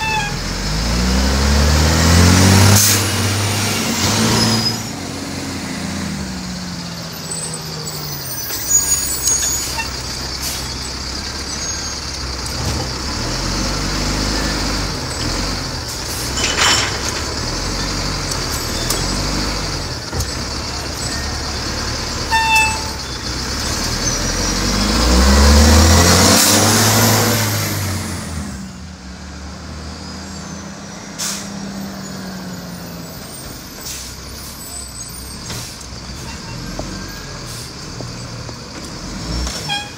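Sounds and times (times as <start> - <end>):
garbage truck engine revving: 0.0 - 39.9.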